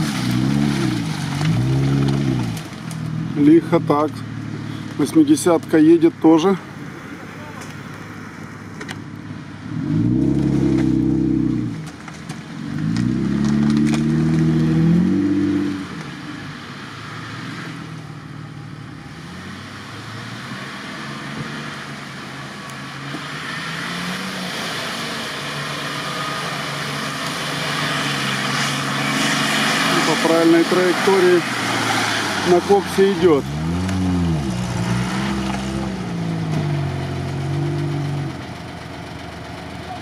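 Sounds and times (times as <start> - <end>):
suv engine revving: 0.0 - 5.8, 8.1 - 40.0.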